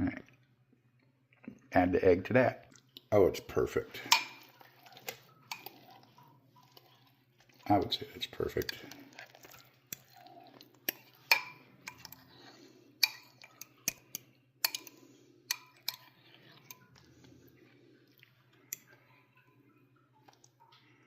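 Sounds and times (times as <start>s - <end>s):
chewing: 2.6s - 3.1s, 3.9s - 21.0s.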